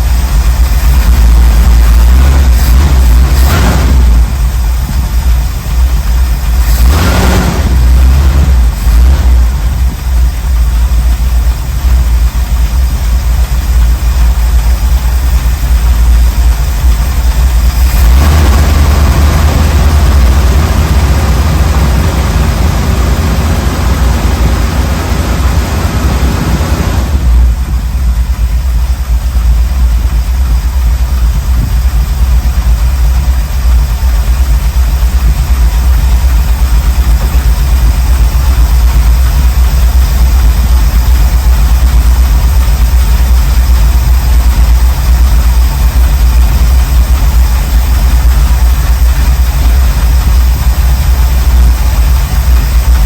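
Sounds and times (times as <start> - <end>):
engine idling and revving: 0.0 - 53.0.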